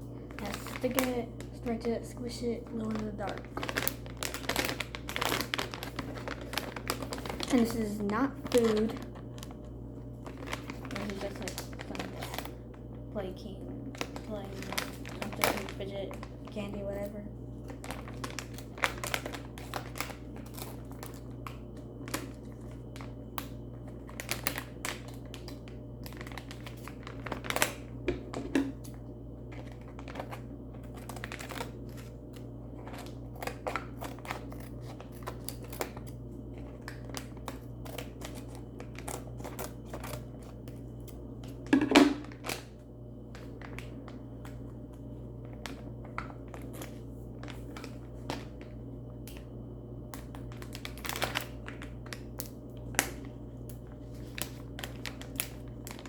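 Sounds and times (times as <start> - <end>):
steady low hum: 0.0 - 56.0
plastic packaging crinkling: 0.1 - 49.5, 50.1 - 56.0.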